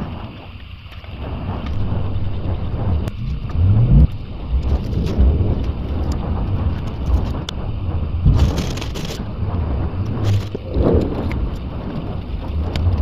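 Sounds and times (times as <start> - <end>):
car engine rumbling: 1.0 - 13.0.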